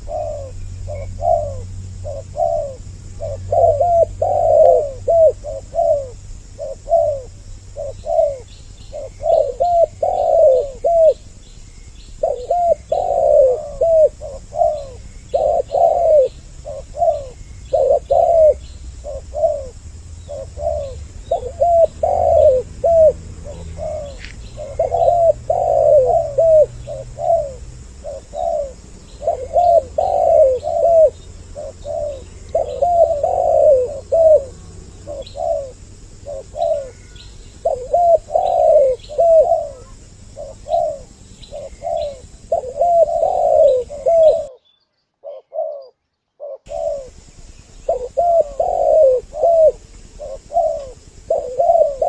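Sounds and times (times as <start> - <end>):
doves cooing: 0.0 - 11.4, 12.1 - 44.6, 45.2 - 52.0.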